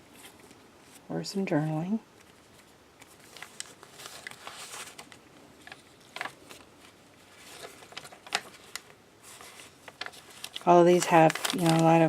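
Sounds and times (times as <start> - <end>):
paper pages rustling: 0.0 - 1.1, 2.1 - 12.0.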